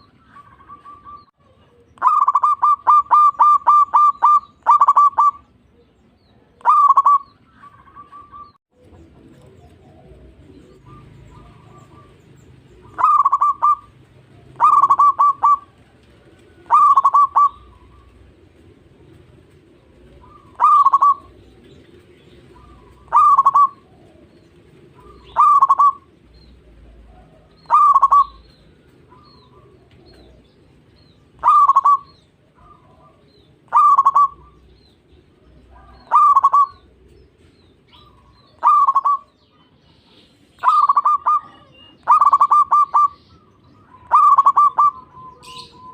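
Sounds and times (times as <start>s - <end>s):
dove cooing: 0.0s - 39.8s, 40.6s - 45.9s.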